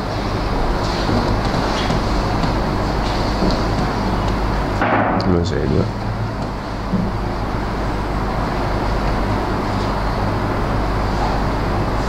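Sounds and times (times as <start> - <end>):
constant rumbling hiss: 0.0 - 12.0
electrical mains hum: 0.0 - 12.0.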